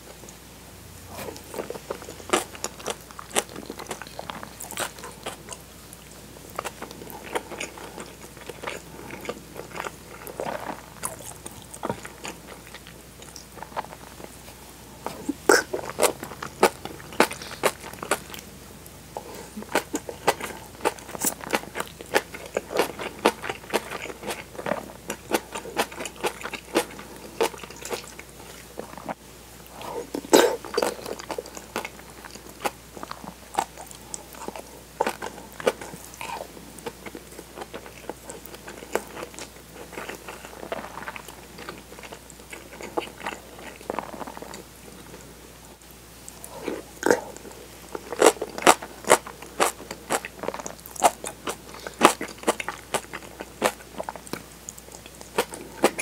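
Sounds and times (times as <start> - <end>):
chewing and crunching: 1.1 - 18.5, 19.2 - 45.3, 46.2 - 56.0.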